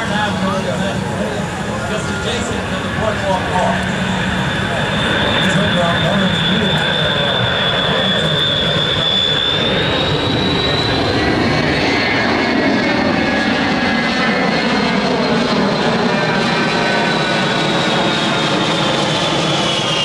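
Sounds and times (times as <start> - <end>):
jet aircraft flyby whine: 0.0 - 20.0.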